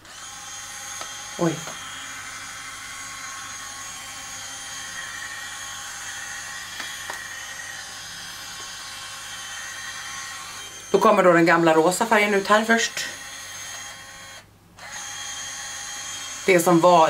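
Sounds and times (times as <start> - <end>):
machine motors whirring: 0.0 - 11.1, 12.3 - 16.9.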